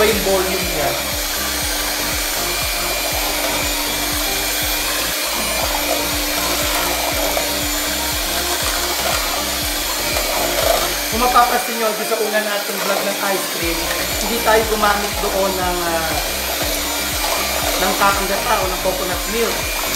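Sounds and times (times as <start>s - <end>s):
electric hand mixer whipping: 0.0s - 19.9s.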